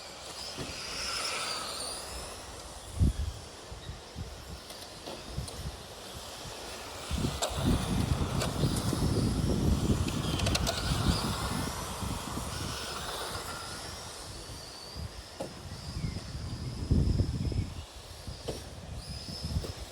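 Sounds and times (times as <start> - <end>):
electric motor whine: 0.0 - 19.9
rumble of tyres: 0.0 - 19.9.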